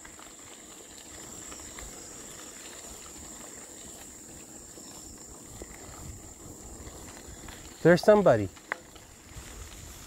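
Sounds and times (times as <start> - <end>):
bicycle tyres on gravel: 0.0 - 10.0
insect trill: 0.0 - 10.0.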